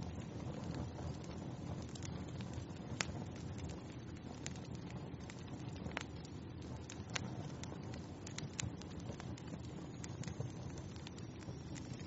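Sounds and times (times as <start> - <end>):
low rumble of burning: 0.0 - 12.0
wood fire crackling: 0.0 - 12.0.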